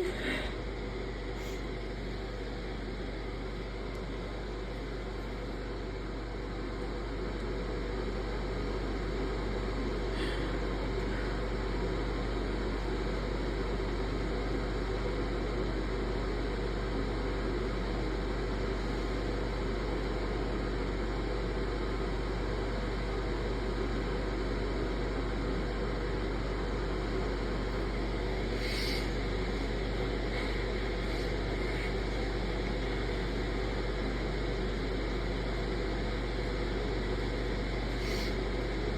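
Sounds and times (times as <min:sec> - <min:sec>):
low hum and hiss: 0:00.0 - 0:38.9.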